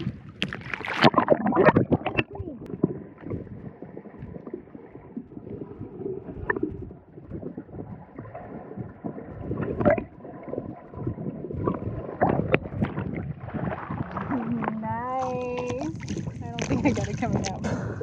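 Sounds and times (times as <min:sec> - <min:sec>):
knocks and splashes: 0:00.0 - 0:18.0
water sloshing against boat hull: 0:00.0 - 0:18.0
wind on microphone: 0:00.0 - 0:18.0.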